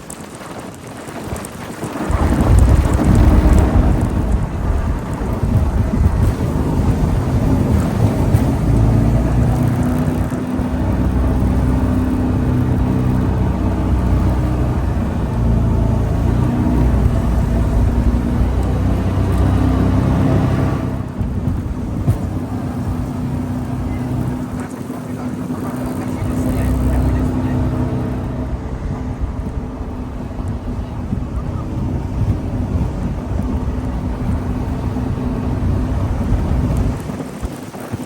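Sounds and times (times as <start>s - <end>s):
jet boat engine running: 0.0s - 38.0s
rushing wind and water: 0.0s - 38.0s.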